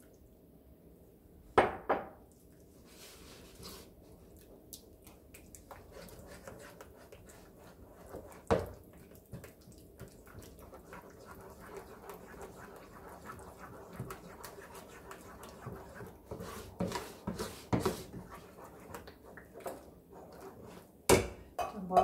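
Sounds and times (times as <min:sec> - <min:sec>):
spoon stirring thick batter: 0:02.4 - 0:21.3.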